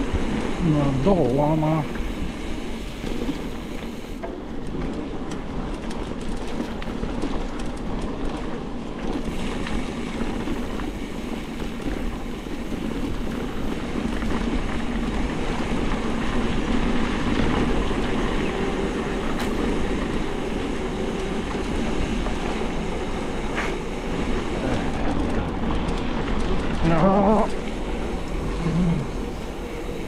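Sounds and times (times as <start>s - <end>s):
bike rattling over rough ground: 0.0s - 30.0s
bike tyre noise: 0.0s - 30.0s.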